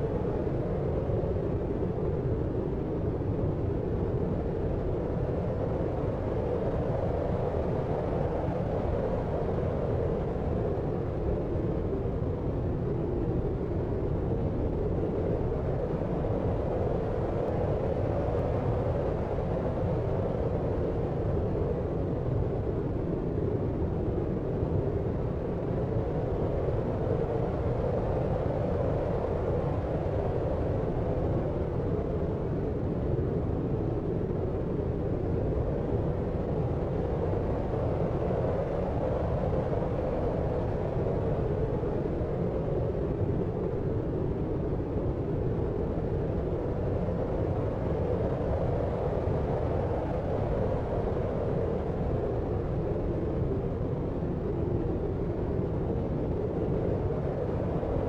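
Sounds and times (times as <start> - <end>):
low rumbling white noise: 0.0 - 58.0.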